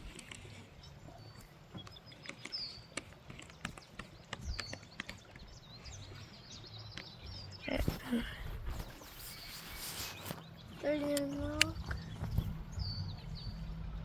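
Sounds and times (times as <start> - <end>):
songbird calling and twittering: 0.0 - 14.0.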